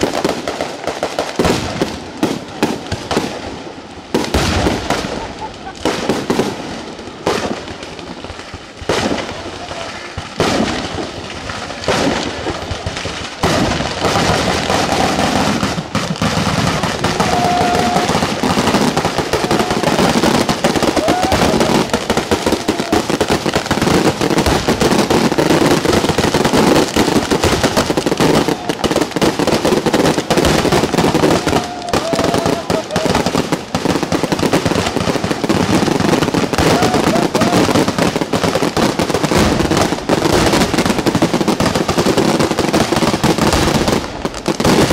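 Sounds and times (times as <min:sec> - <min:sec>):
firecracker bangs: 0:00.0 - 0:44.9
rapid firecracker crackle: 0:00.0 - 0:44.9.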